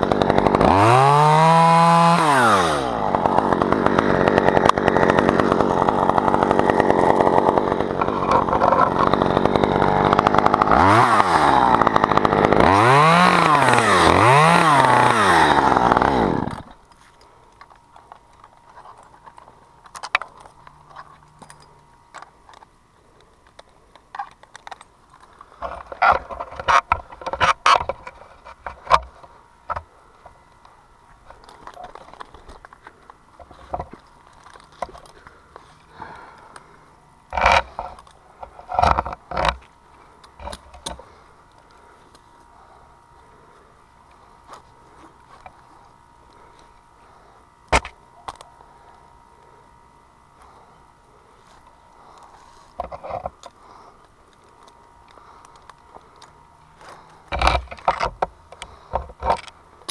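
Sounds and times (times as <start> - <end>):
chainsaw cutting wood: 0.0 - 21.4, 24.2 - 30.4, 31.2 - 49.5, 51.4 - 59.9.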